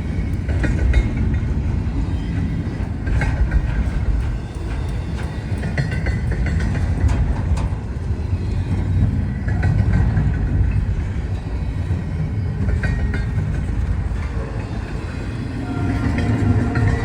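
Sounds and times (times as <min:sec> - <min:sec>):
freight train wheels rumbling: 0:00.0 - 0:17.0
wheel clicks and squeaks: 0:00.1 - 0:17.0.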